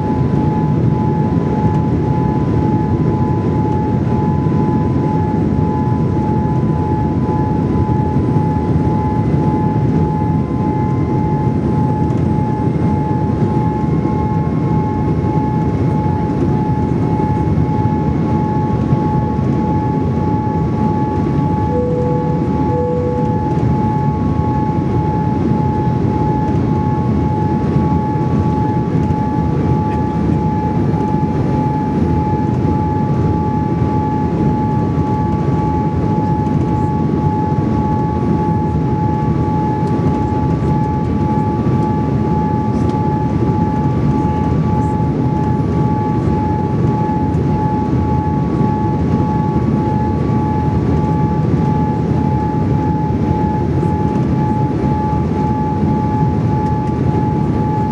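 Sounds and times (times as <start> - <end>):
airflow and engine rush: 0.0 - 57.9
steady high whine: 0.0 - 57.9.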